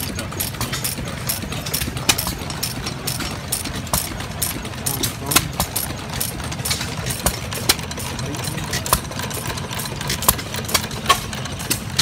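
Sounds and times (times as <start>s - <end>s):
engine pops: 0.0s - 12.0s
stationary engine chugging: 0.0s - 12.0s.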